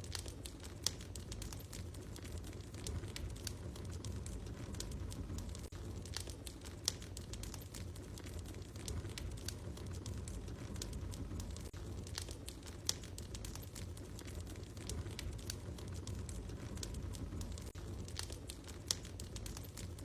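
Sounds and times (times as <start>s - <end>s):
loud fire pops: 0.0s - 20.0s
wood fire crackling: 0.0s - 20.0s.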